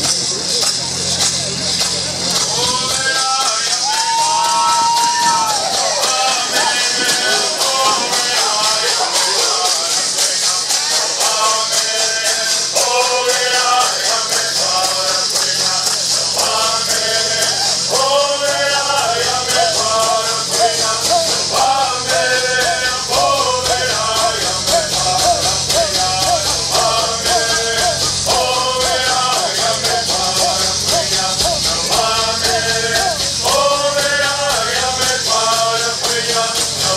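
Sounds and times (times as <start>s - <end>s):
gourd rattles shaken: 0.0s - 36.9s
men singing in unison: 2.5s - 36.9s.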